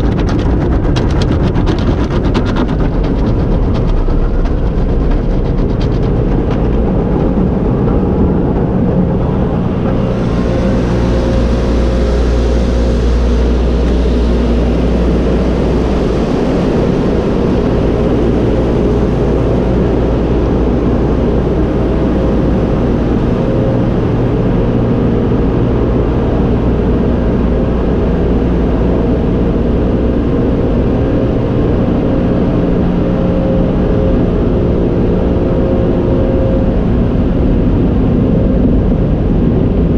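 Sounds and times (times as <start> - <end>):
car wash equipment rumble and whine: 0.0 - 39.9.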